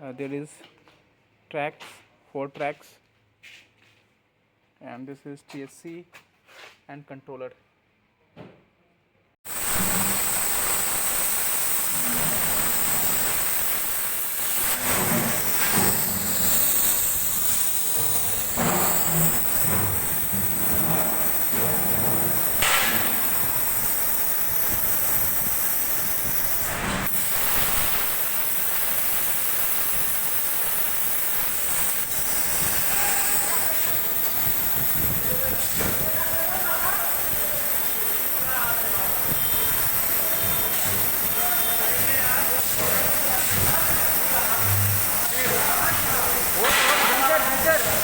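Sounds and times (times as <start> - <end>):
cutting torch hissing: 9.4 - 48.0.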